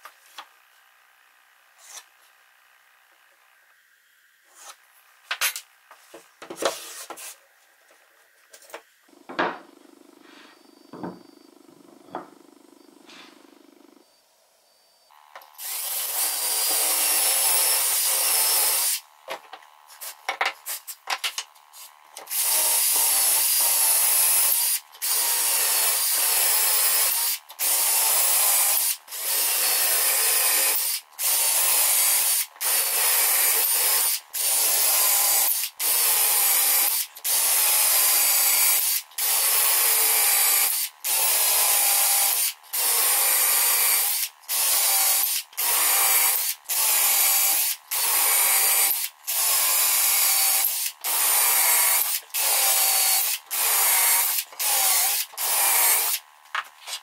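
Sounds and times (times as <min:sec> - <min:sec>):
cordless drill boring wood: 0:00.0 - 0:03.8, 0:09.1 - 0:14.2, 0:15.1 - 0:56.4.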